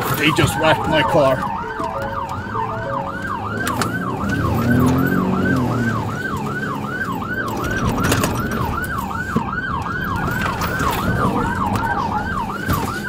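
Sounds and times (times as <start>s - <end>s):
car engine and road noise: 0.0s - 13.0s
police siren yelping: 0.0s - 13.0s.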